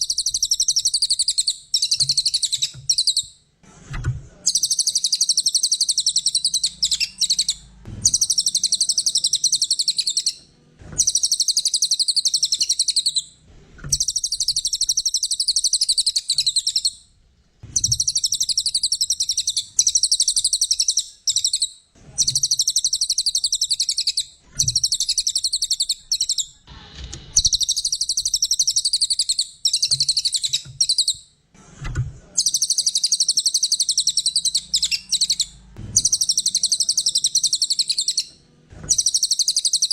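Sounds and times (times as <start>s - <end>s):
songbird chattering song: 0.0s - 3.4s, 4.5s - 10.4s, 11.0s - 13.3s, 13.9s - 17.0s, 17.7s - 26.6s, 27.4s - 31.2s, 32.4s - 38.3s, 38.9s - 39.9s.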